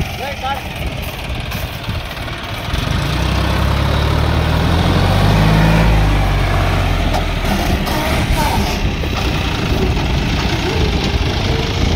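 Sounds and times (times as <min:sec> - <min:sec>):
tractor diesel engine under load: 0:00.0 - 0:11.9.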